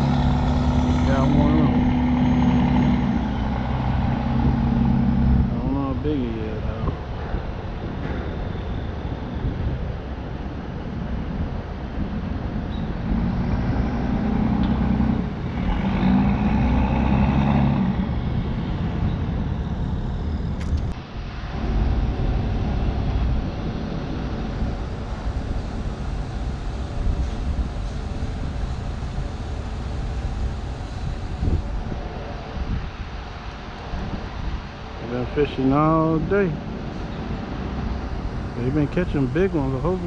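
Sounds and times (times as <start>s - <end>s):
low rumble of vehicles: 0.0s - 40.0s.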